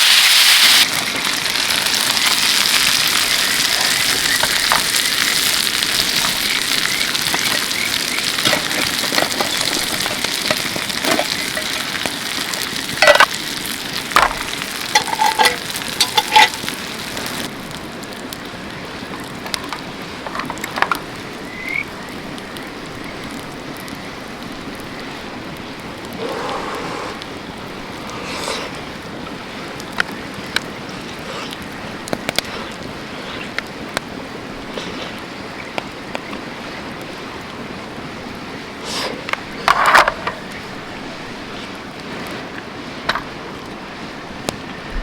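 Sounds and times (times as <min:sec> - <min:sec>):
mountain stream rushing: 0:00.0 - 0:45.0.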